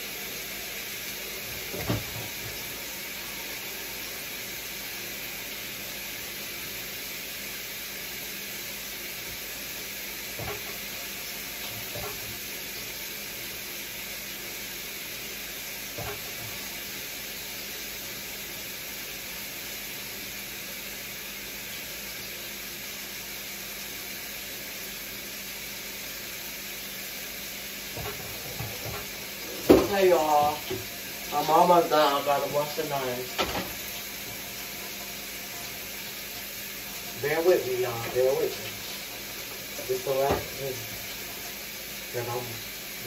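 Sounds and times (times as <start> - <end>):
chicken sizzling in a skillet: 2.3 - 43.0.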